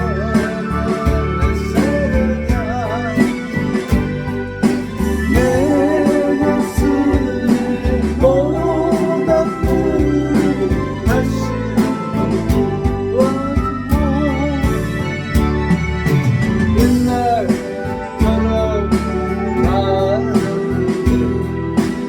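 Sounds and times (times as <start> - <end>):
backing track with steady beat: 0.0 - 22.0
harmonica melody: 0.0 - 22.0.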